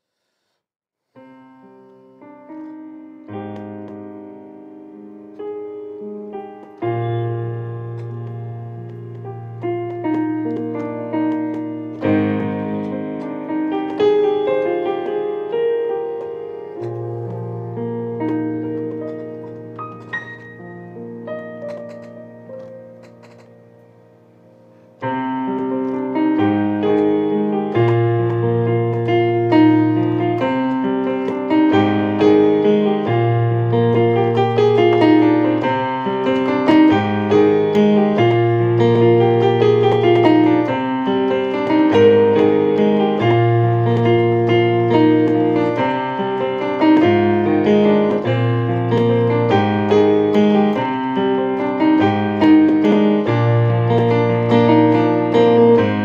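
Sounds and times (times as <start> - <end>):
solo piano piece: 0.0 - 56.0.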